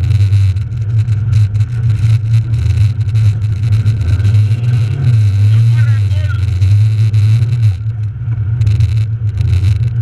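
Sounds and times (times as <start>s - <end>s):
rally car engine drone: 0.0s - 10.0s.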